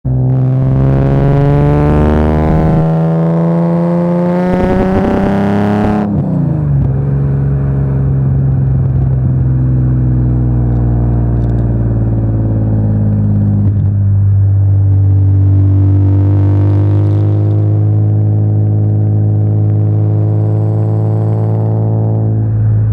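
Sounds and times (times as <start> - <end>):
car engine revving: 0.1 - 22.9.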